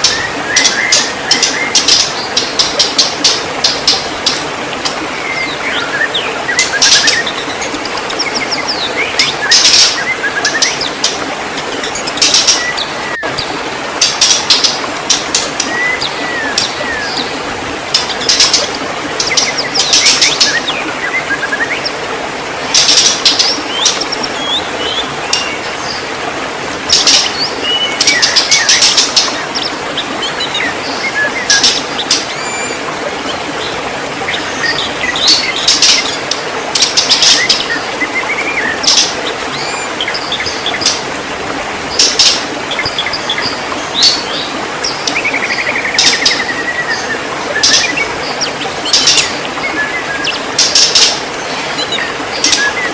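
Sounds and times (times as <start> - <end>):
bird singing rattling chirps: 0.0 - 21.9, 22.7 - 26.1, 26.8 - 41.1, 41.9 - 52.9.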